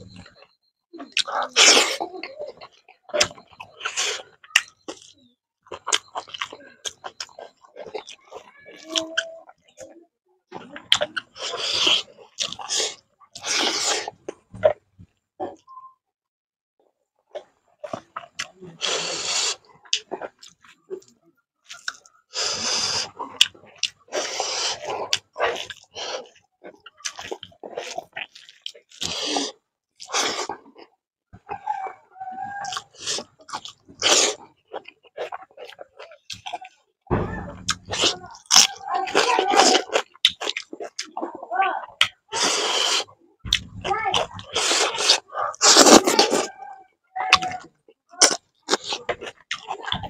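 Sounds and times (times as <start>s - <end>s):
man chewing with wet mouth clicks: 0.0s - 9.9s, 10.8s - 15.2s, 17.3s - 41.3s, 41.9s - 46.6s, 47.2s - 50.0s.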